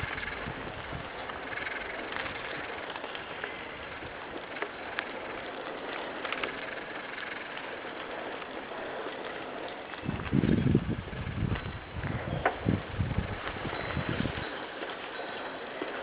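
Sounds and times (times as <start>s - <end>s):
steady rushing outdoor noise: 0.0s - 16.0s
faint clicks and ticks: 1.2s - 16.0s.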